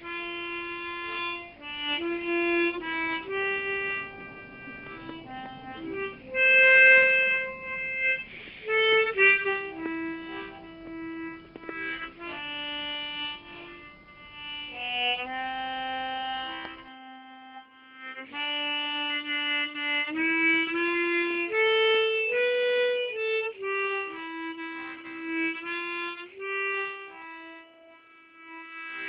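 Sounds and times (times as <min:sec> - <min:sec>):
harmonica melody: 0:00.0 - 0:29.0.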